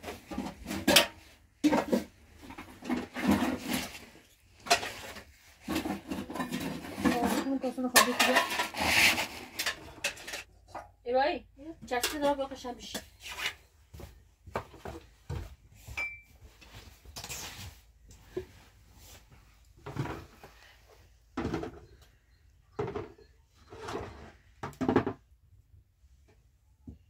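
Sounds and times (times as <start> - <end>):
objects knocking and scraping: 0.0 - 11.0, 11.8 - 25.5.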